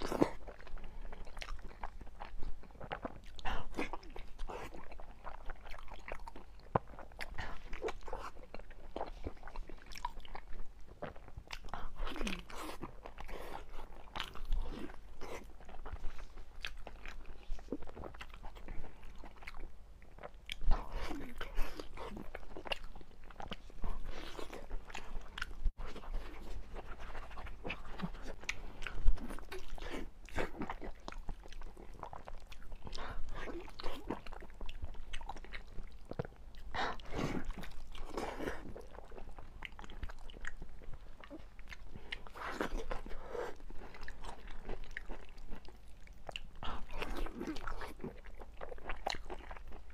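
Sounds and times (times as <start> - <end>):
chewing and biting on bone: 0.0 - 49.9.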